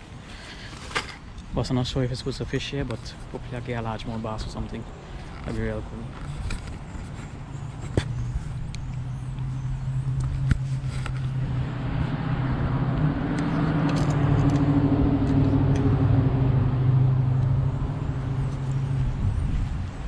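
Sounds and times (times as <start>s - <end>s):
road noise: 0.0s - 20.0s
vehicle engine hum: 2.2s - 20.0s.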